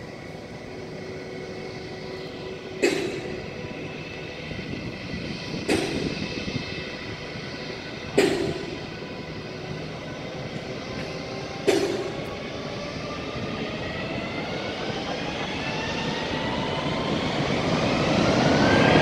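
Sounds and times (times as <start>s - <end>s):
jet engines spooling up: 0.0s - 19.0s.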